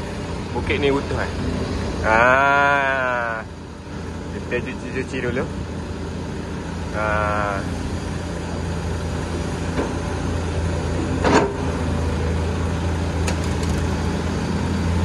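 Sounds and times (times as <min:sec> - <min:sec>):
heavy diesel engines droning: 0:00.0 - 0:15.0.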